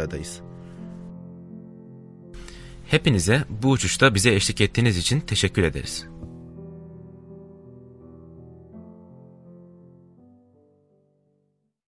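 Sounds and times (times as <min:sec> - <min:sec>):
soft instrumental music: 0:00.0 - 0:11.7.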